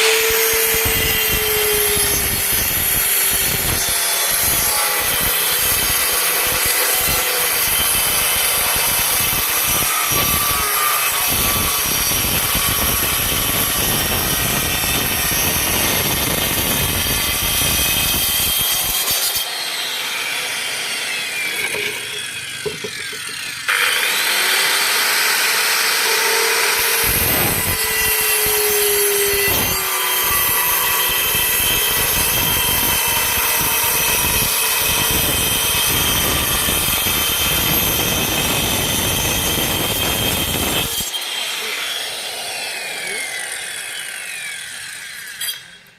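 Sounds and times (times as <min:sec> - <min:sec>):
circular saw cutting plywood: 0:00.0 - 0:45.9.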